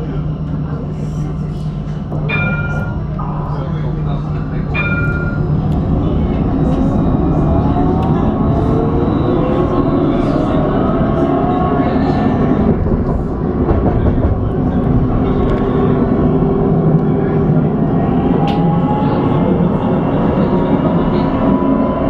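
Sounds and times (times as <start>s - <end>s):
tram rumbling on rails: 0.0s - 22.0s.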